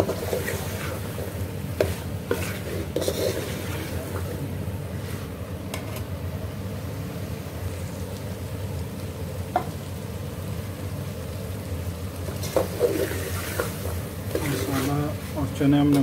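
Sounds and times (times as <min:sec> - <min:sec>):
low sizzle in pot: 0:00.0 - 0:16.0.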